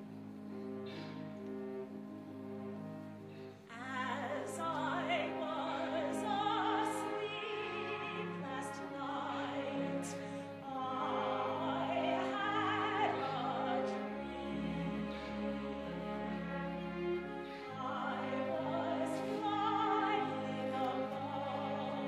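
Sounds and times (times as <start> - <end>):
orchestral accompaniment: 0.0 - 22.0
operatic singing: 3.7 - 22.0.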